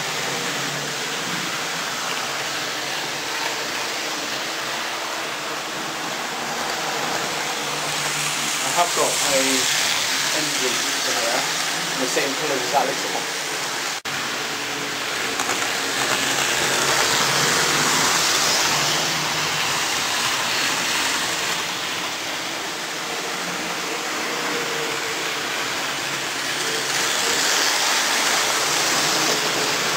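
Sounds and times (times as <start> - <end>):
model trains rumbling on track: 5.7 - 29.9.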